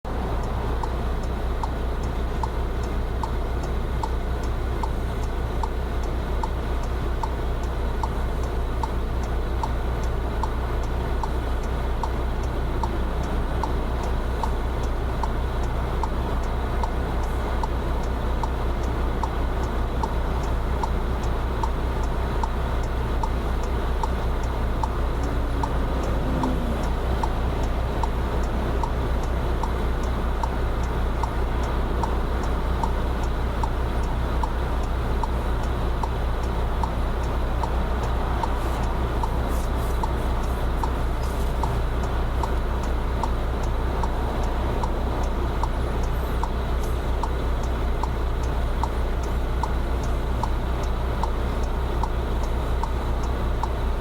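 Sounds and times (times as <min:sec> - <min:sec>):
steady low rumble: 0:00.0 - 0:54.0
regular ticking: 0:00.1 - 0:54.0.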